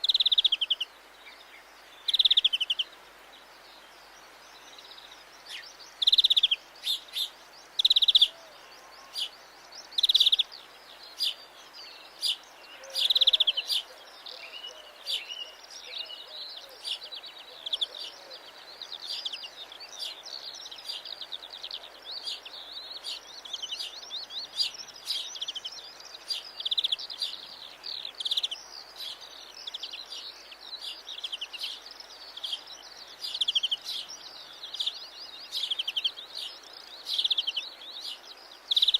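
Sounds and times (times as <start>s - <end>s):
finch singing trills: 4.8s - 38.9s.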